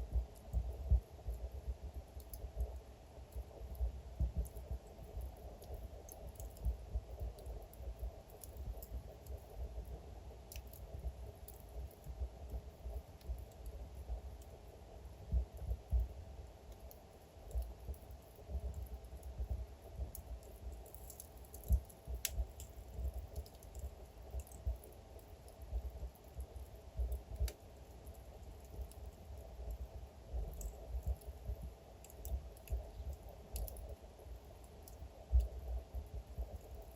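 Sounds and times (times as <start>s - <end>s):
low rumble of fire: 0.0s - 36.9s
wood fire crackling: 0.1s - 36.9s.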